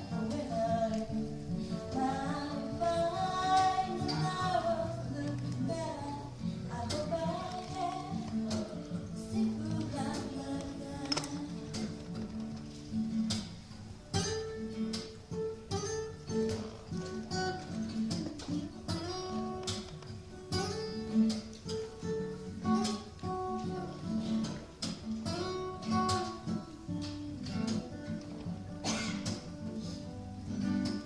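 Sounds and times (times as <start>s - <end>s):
acoustic guitar picking a melody: 0.0s - 31.0s
strummed guitar accompaniment: 0.0s - 31.0s.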